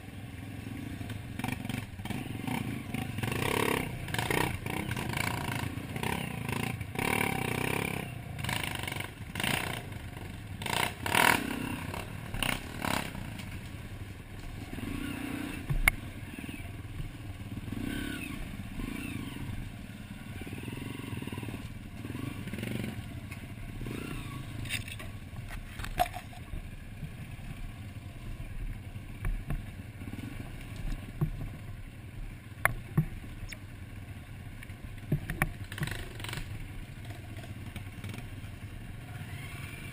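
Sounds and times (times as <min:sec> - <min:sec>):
dirt bike engines blipping: 0:00.0 - 0:39.9.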